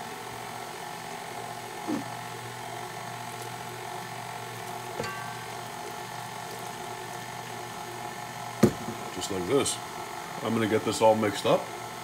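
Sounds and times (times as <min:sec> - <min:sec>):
stand mixer running: 0:00.0 - 0:12.0.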